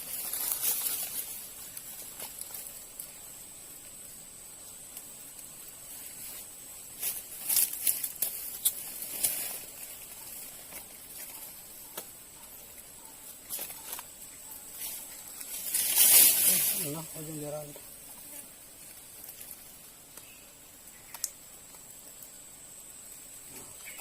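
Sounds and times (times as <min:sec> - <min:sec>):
steady high hiss: 0:00.0 - 0:24.0.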